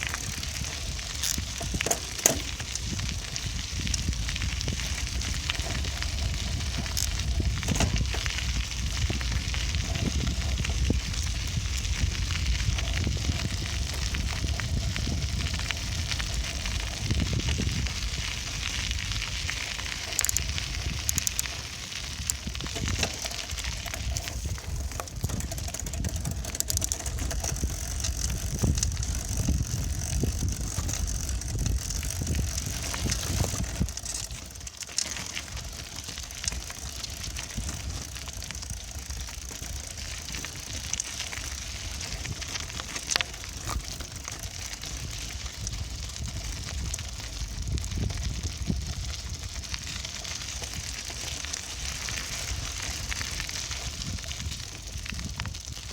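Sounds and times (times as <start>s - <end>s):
bicycle clicks and rattles: 0.0s - 55.9s
bicycle tyre road noise: 0.0s - 55.9s
wind buffeting microphone: 0.0s - 55.9s.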